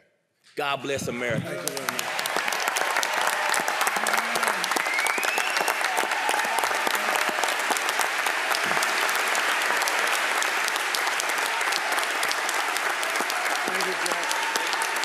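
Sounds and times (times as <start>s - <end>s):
audience applauding: 1.5s - 15.0s.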